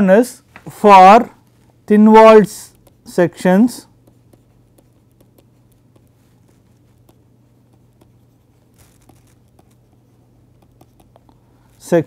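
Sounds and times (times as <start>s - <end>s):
stylus scratching on tablet: 1.4s - 12.0s.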